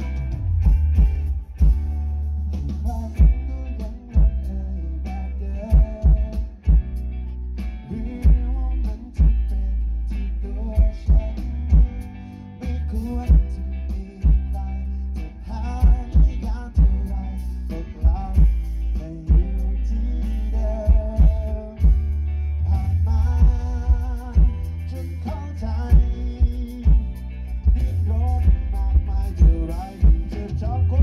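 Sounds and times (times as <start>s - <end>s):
booming bass: 0.0s - 31.0s
live band playing: 0.0s - 31.0s
person singing: 1.6s - 6.9s, 7.6s - 31.0s.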